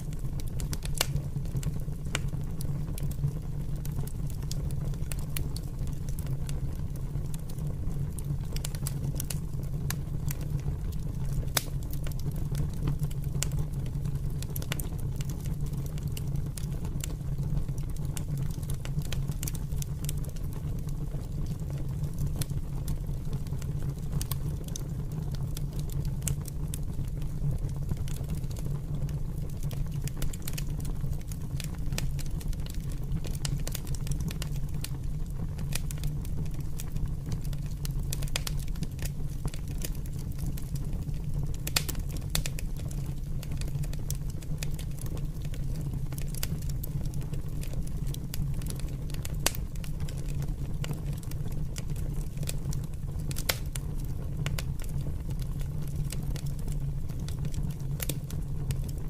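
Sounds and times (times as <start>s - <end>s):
fire flames rumbling: 0.0s - 59.0s
fire popping and crackling: 0.0s - 59.0s.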